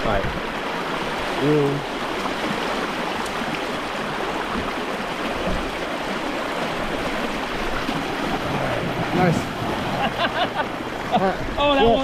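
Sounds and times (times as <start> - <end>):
creek water rushing and splashing: 0.0 - 12.0.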